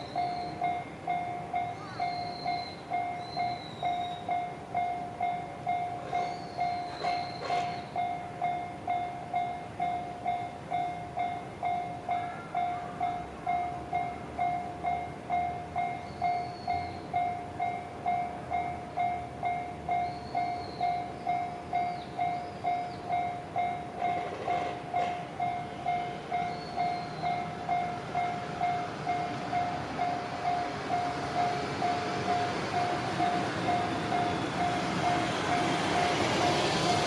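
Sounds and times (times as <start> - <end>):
level-crossing warning bell: 0.0 - 37.0
train running noise: 0.0 - 37.0.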